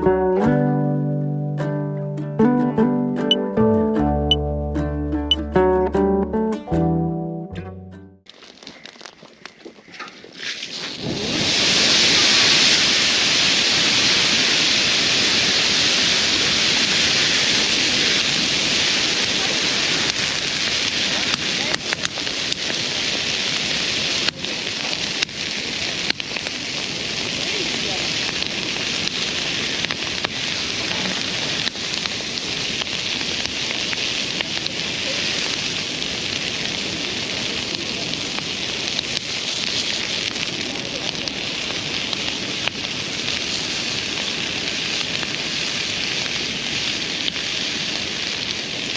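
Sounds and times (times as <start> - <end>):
fire crackles and pops: 0.0 - 48.9
air rushing into bonfire: 8.3 - 48.9.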